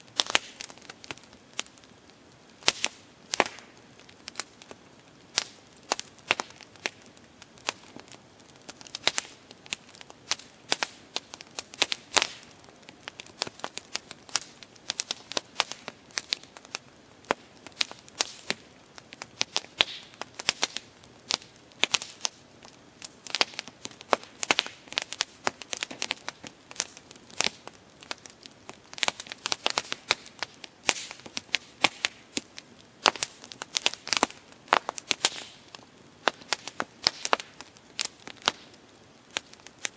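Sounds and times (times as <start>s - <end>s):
campfire wood crackling and popping: 0.0s - 39.9s
faint steady hiss: 0.0s - 39.9s.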